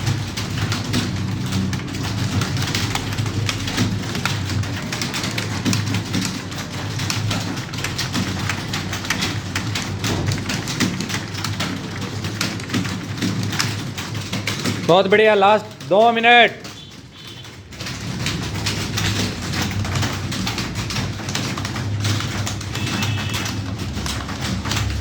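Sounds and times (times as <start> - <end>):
keyboard typing clatter: 0.0 - 25.0.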